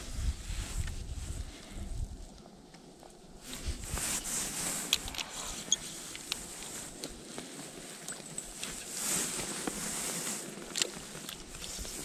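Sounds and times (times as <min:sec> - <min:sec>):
steady rustling hiss: 0:00.0 - 0:12.0.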